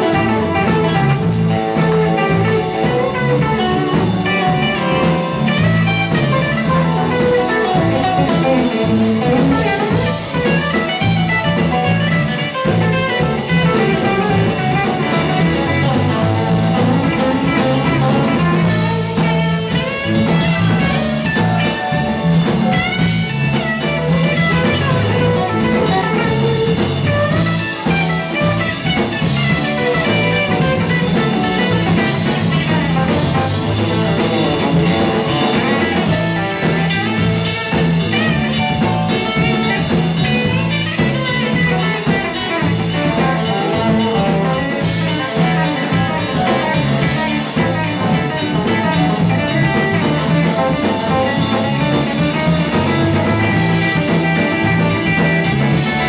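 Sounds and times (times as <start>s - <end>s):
blues-rock band playing: 0.0s - 56.0s.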